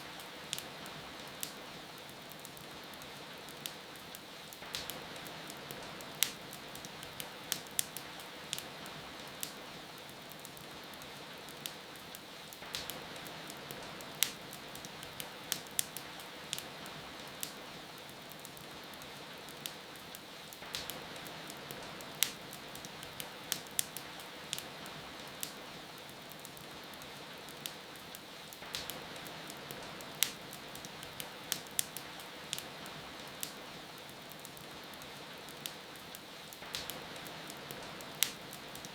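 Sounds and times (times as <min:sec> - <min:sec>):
rain hiss: 0:00.0 - 0:38.9
wood fire crackling: 0:00.0 - 0:38.9.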